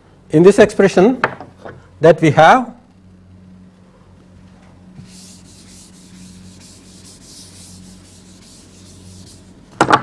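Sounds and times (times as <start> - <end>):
low mains hum: 0.0 - 10.0.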